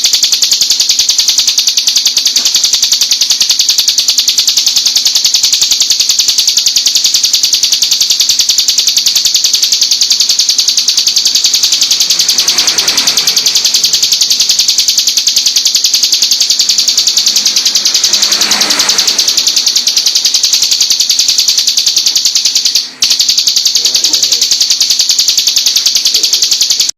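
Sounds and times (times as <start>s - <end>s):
bird singing rapid high trill: 0.0s - 26.9s.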